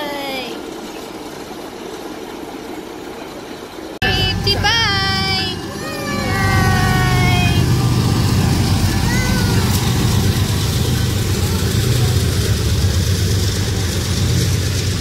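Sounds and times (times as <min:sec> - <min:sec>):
diesel locomotive engines humming: 0:00.0 - 0:15.0
rail cars rolling on rails: 0:00.0 - 0:15.0.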